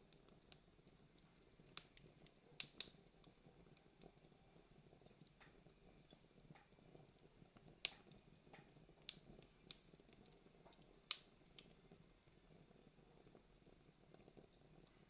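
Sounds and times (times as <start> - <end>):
campfire crackles and pops: 0.0 - 15.0.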